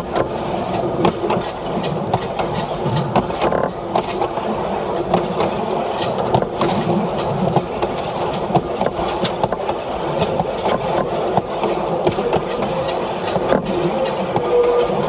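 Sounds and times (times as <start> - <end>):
railcar engine and wheels rumbling: 0.0 - 15.0
wheels clicking over rails: 0.0 - 15.0.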